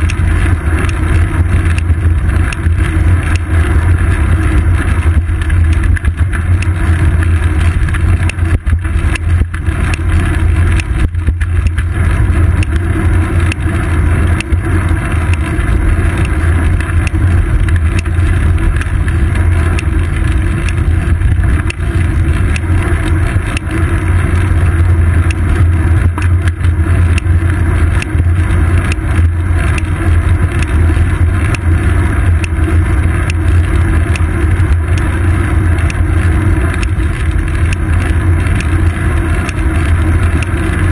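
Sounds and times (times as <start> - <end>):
wind and road rumble: 0.0 - 40.9.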